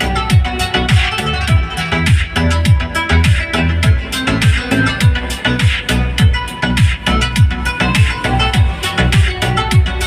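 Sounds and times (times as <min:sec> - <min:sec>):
loud dance music: 0:00.0 - 0:10.0
deep kick drum: 0:00.2 - 0:10.0.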